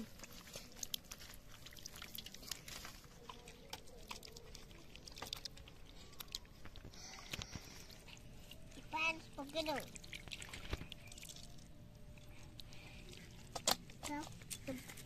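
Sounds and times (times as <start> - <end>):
wet squelching and splashing: 0.0 - 15.0.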